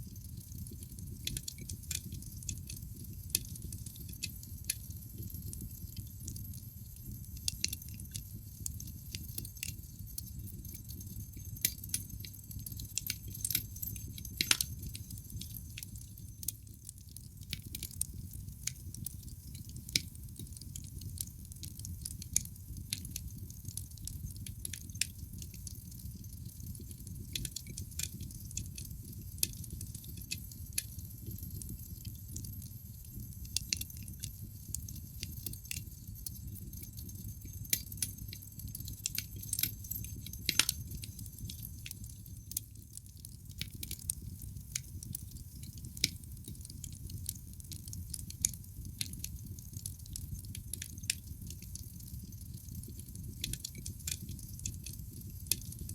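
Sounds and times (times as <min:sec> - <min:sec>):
fire snaps and pops: 0:00.0 - 0:55.9
low rumble of flames: 0:00.0 - 0:55.9
wood fire crackling: 0:00.0 - 0:55.9.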